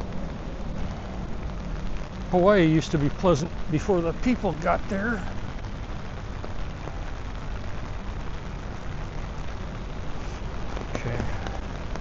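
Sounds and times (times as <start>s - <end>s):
low rumble: 0.0s - 12.0s
raindrop ticks: 0.0s - 12.0s
steady rain hissing: 0.0s - 12.0s.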